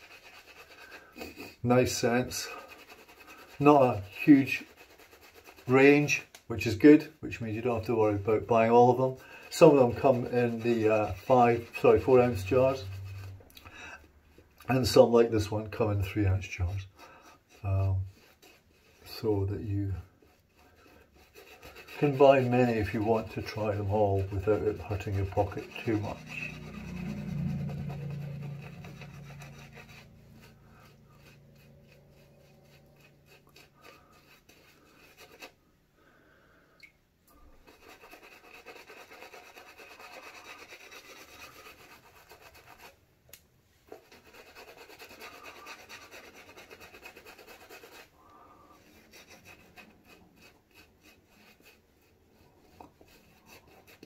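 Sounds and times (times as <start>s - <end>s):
shaving brush rubbing on stubble: 0.0s - 35.7s, 37.4s - 43.0s, 43.8s - 54.0s.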